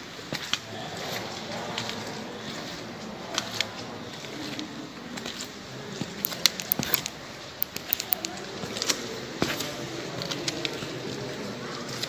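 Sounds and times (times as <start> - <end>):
footsteps going down stairs: 0.0 - 12.0.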